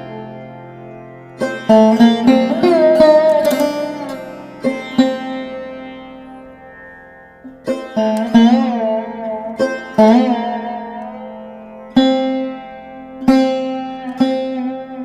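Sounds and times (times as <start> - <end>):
plucked string instrument notes: 0.0 - 15.0.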